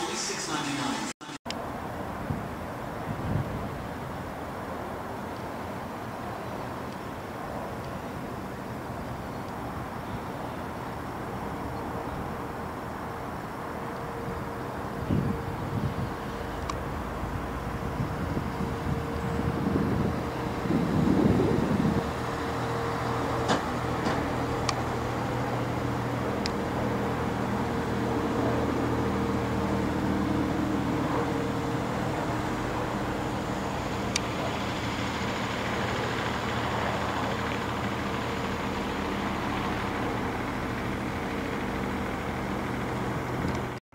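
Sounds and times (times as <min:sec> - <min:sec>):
engine idling hum: 0:01.5 - 0:43.8.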